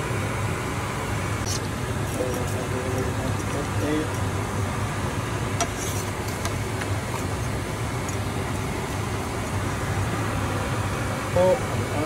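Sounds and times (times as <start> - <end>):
extractor fan drone: 0.0 - 12.0.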